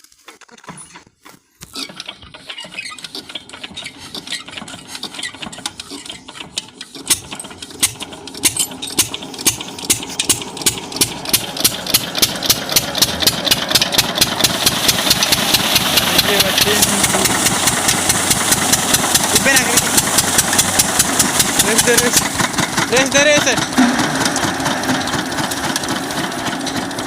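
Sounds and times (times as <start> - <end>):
small diesel engine knocking: 1.8 - 27.0.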